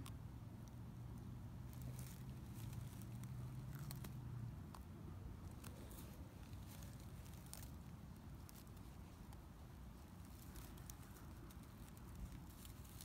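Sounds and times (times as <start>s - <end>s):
low steady rumble: 0.0s - 13.0s
tortoise crackling over dry grass: 0.0s - 13.0s.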